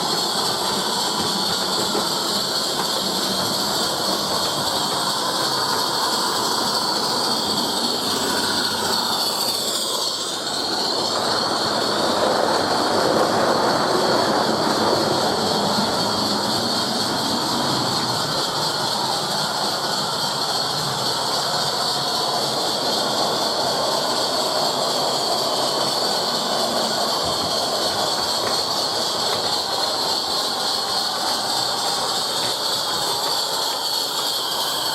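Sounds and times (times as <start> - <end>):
model steam locomotive running: 0.0 - 34.9.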